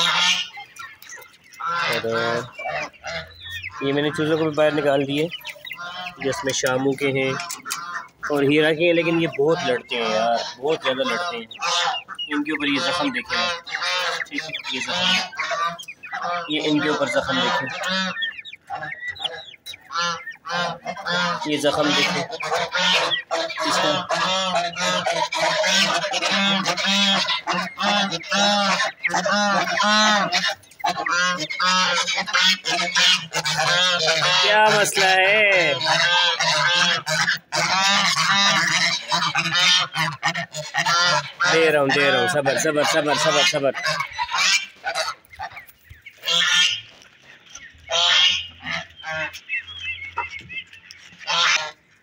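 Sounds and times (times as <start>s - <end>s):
chicks cheeping: 0.0s - 52.0s
geese honking: 0.0s - 52.0s.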